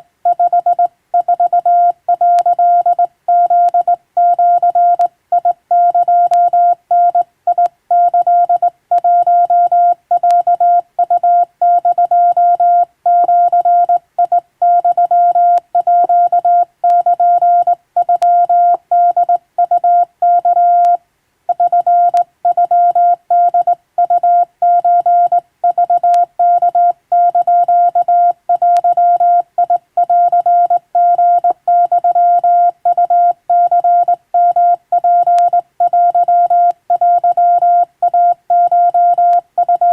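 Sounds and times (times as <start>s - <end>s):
morse code beeps: 0.3s - 39.9s.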